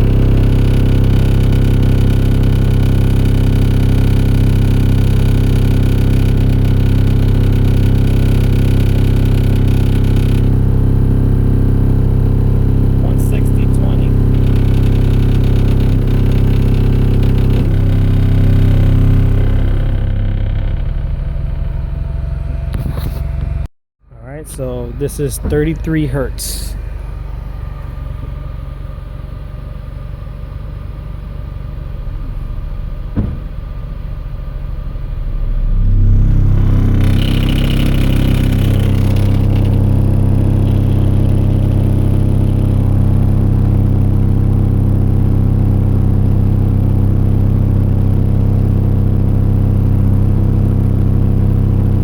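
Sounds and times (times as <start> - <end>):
subwoofer bass test tone: 0.0 - 52.0.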